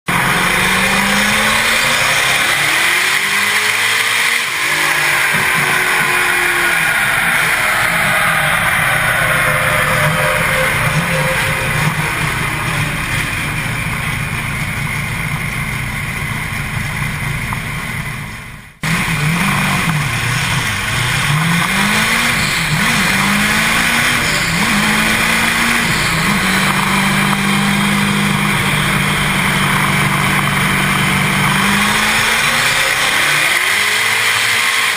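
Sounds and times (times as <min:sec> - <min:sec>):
truck engine revving: 0:00.1 - 0:34.9.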